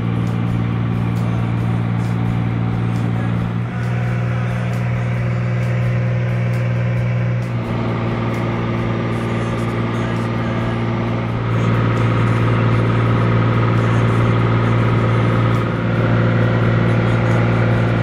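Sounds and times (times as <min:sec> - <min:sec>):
aircraft engine droning in cabin: 0:00.0 - 0:18.0.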